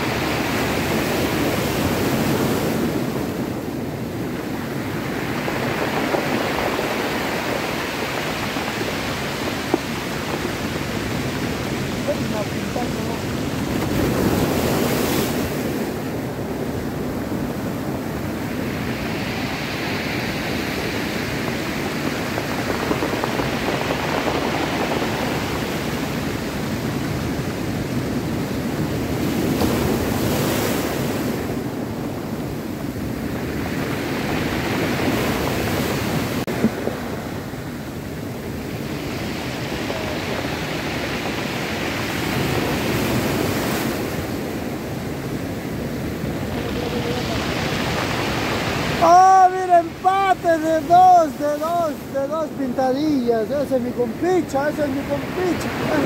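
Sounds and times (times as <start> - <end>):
ocean surf breaking on rocks: 0.0 - 56.0.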